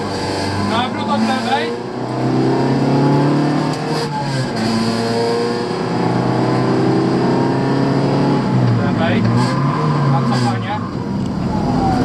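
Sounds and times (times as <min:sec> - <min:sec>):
car engine pulling hard: 0:00.0 - 0:12.0.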